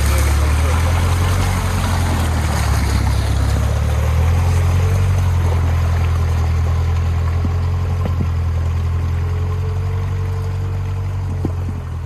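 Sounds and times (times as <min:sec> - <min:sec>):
off-road engine droning: 0:00.0 - 0:12.0
water rushing: 0:00.0 - 0:12.0.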